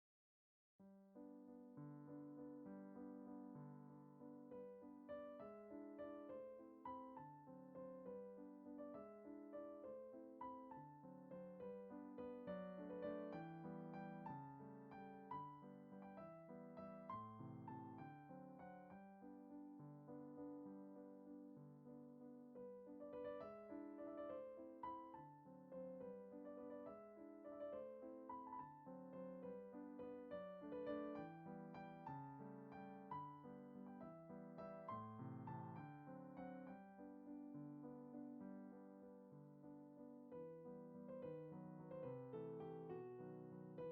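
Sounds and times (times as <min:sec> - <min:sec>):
gentle piano music: 0:00.8 - 0:43.9.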